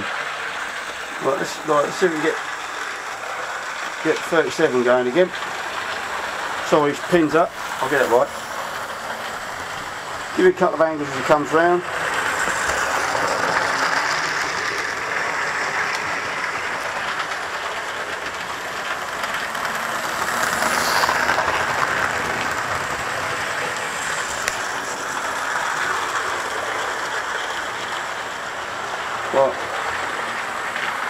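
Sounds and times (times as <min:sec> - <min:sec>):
model trains whirring on track: 0:00.0 - 0:31.0.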